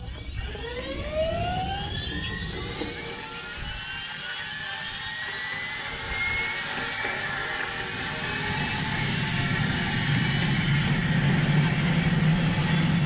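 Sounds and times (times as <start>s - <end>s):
helicopter turbine whine: 0.0s - 13.0s.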